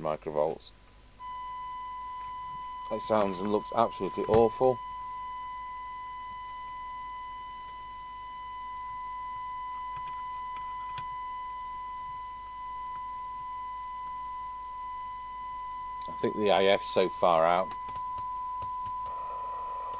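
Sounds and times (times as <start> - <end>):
radio speaker test tone: 1.2 - 19.9.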